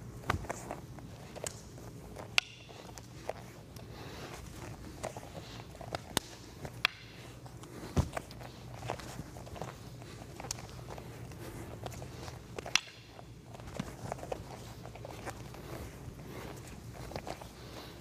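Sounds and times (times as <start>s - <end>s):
bare feet shuffling on mat: 0.0s - 18.0s
knife and stick clacking: 0.2s - 15.6s.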